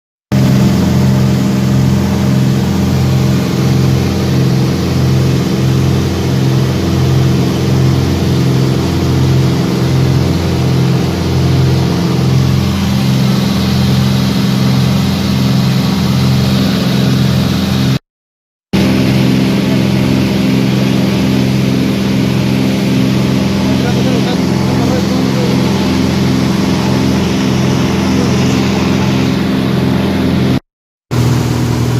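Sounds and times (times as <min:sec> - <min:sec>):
propeller aircraft engines droning: 0:00.3 - 0:18.0, 0:18.8 - 0:31.9.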